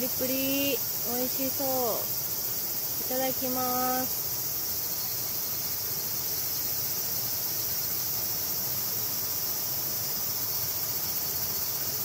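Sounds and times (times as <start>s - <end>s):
insects chirping chorus: 0.0s - 12.0s.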